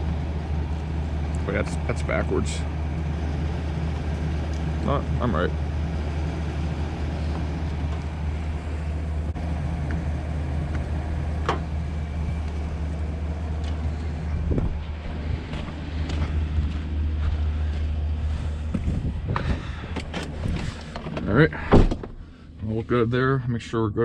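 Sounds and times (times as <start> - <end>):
truck engine idling: 0.0 - 22.7.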